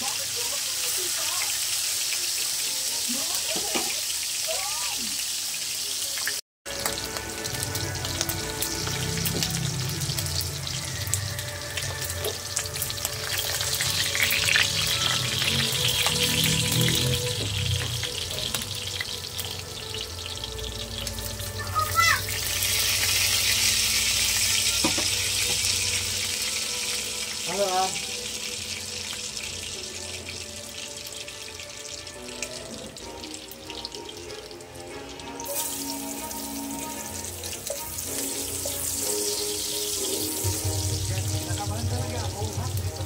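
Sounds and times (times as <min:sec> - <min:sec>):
meat sizzling in oil: 0:00.0 - 0:43.0.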